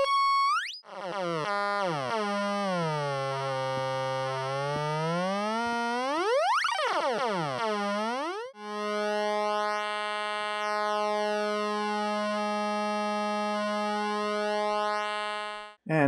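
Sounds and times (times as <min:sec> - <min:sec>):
buzzy square-wave tone: 0:00.0 - 0:16.0.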